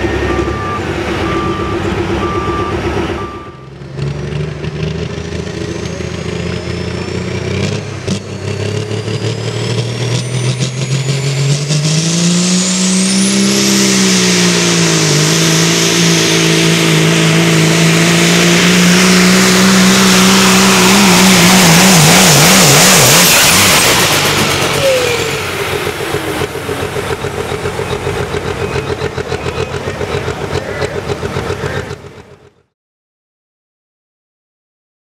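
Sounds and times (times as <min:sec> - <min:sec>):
diesel truck engine revving: 0:00.0 - 0:32.7.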